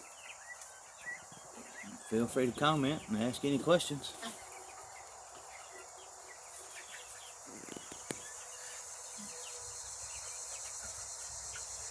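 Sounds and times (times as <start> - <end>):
insects chorus: 0.0 - 11.9.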